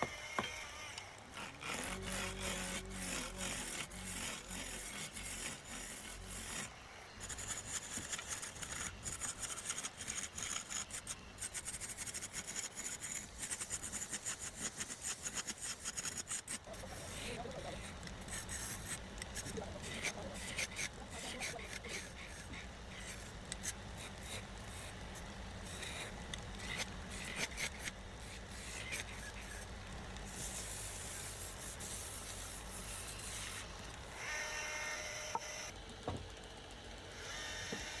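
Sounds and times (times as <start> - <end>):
scraping and rasping wood: 0.0 - 35.7.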